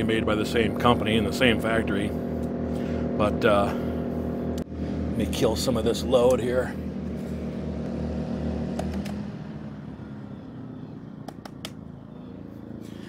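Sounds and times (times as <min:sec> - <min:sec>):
generators running: 0:00.0 - 0:13.0.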